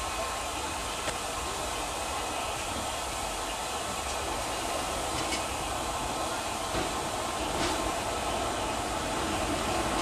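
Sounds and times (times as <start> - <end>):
diesel locomotive engine running: 0.0 - 10.0.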